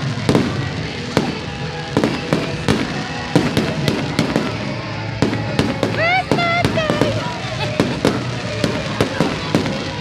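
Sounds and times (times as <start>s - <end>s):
background music: 0.0s - 10.0s
fireworks bangs: 0.0s - 10.0s.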